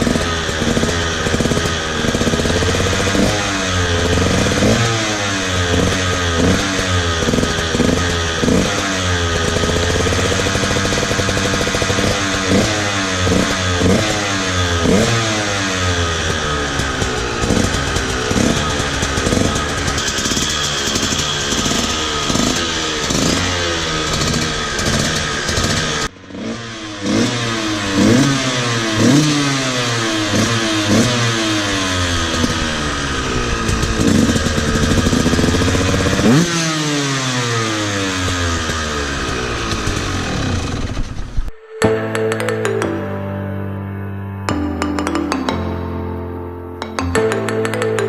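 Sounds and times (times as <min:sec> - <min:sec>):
dirt bike engine accelerating: 0:00.0 - 0:43.2, 0:46.8 - 0:48.0.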